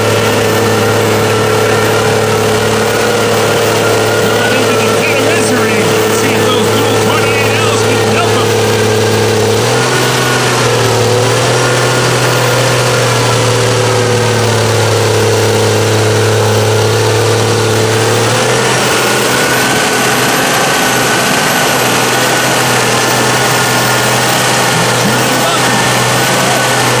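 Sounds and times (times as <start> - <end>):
truck engine running at high revs: 0.0 - 27.0.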